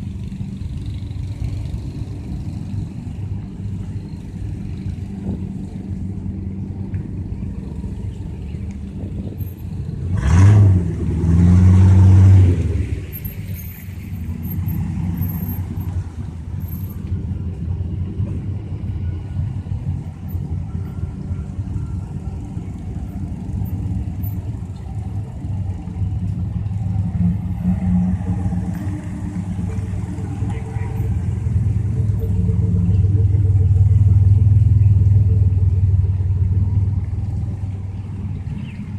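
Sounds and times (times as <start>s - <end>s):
heavy truck engines running: 0.0s - 38.9s.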